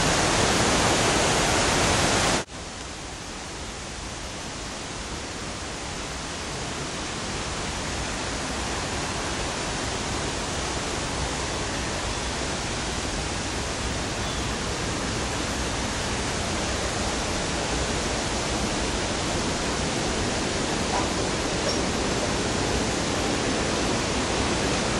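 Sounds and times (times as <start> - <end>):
rushing flowing water: 0.0 - 24.9.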